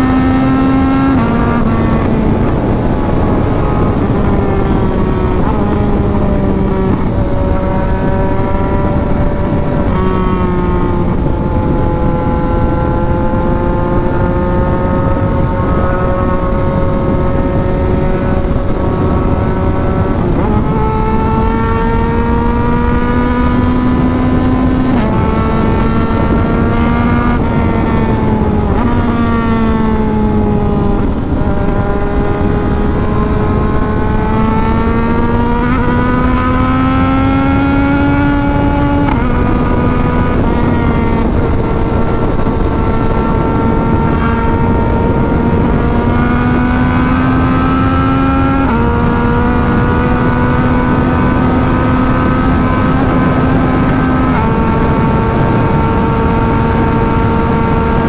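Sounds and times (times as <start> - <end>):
motorcycle engine at high speed: 0.0 - 58.0
wind rushing: 0.0 - 58.0.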